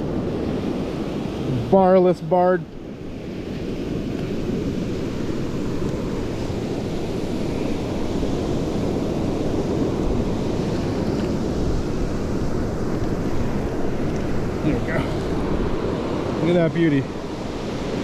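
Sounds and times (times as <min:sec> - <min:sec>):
surf washing on beach: 0:00.0 - 0:18.0
wind buffeting microphone: 0:00.0 - 0:18.0.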